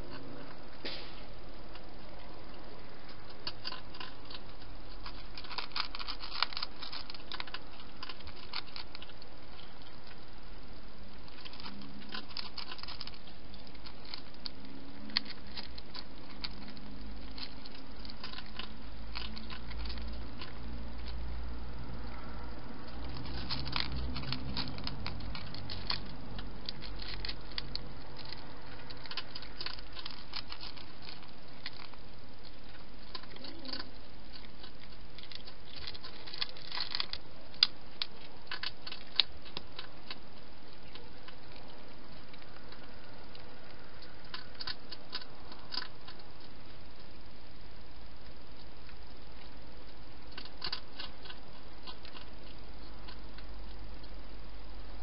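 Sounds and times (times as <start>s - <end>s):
animal chewing food: 0.0s - 55.0s
steady background hiss: 0.0s - 55.0s.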